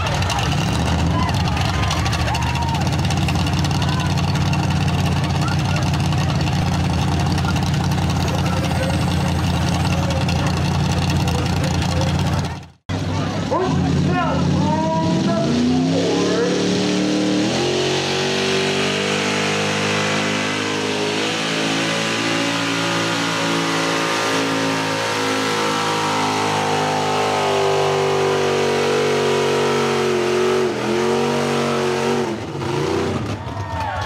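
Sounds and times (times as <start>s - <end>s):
truck engine revving high: 0.0s - 34.0s.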